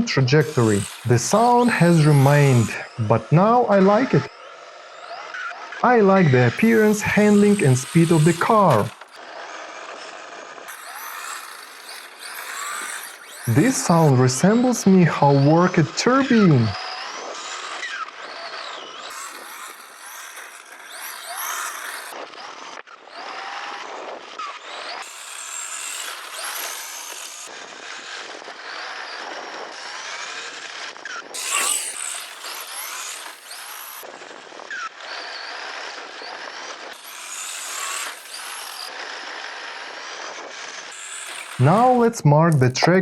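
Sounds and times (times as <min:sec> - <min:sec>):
rc car motor and gears whining: 0:00.0 - 0:43.0.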